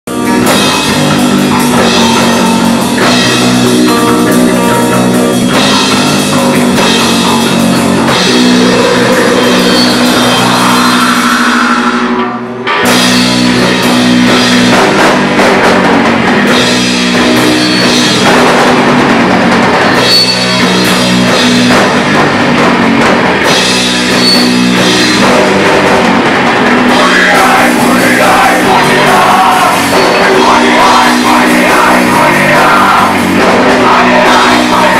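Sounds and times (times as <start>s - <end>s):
bass guitar: 0.0s - 34.9s
distorted electric guitar: 0.0s - 34.9s
fast drum kit: 0.1s - 34.9s.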